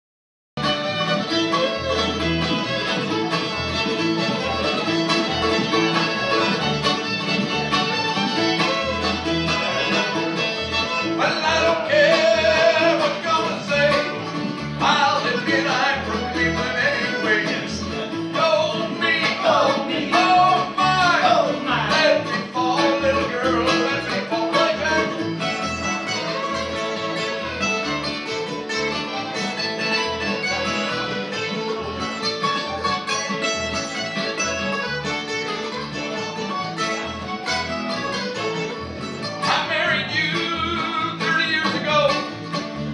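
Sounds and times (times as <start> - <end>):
acoustic guitars: 0.6 - 42.9
fiddle: 0.6 - 42.9
mandolin: 0.6 - 42.9
upright bass: 0.6 - 42.9.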